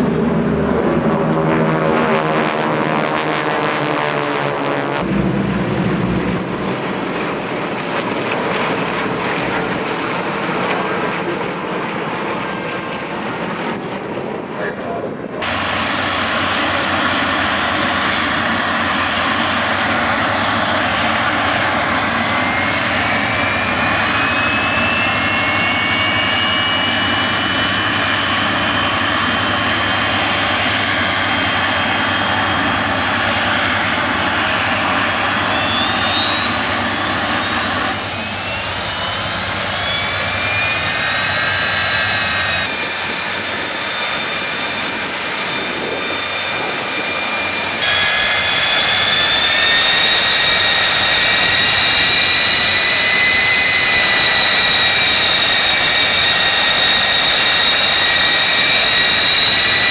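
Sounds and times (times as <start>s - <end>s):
jet engine rush with rising whine: 0.0s - 59.9s.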